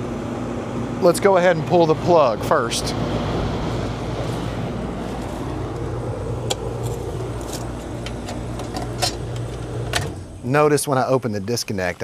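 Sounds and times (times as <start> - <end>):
air conditioner compressor hum: 0.0 - 12.0.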